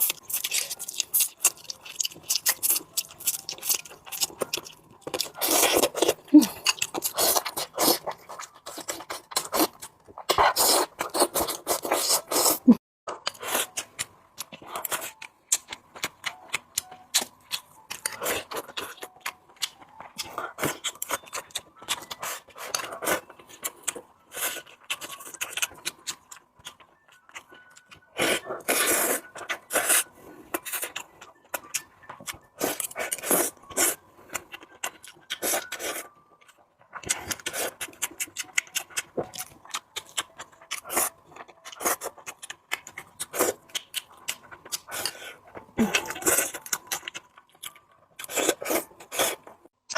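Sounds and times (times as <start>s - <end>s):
person chewing food: 0.0s - 49.7s.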